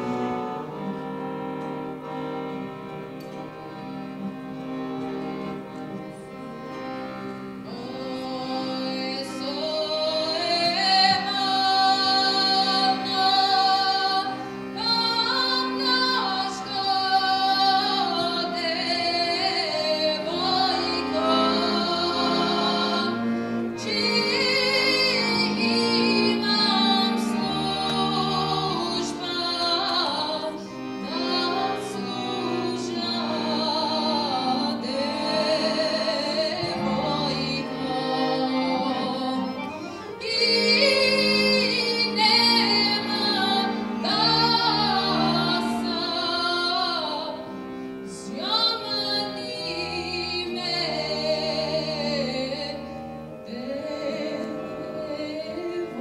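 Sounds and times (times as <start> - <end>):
instrumental accompaniment: 0.0 - 56.0
woman singing into a microphone: 7.7 - 23.2, 23.8 - 56.0.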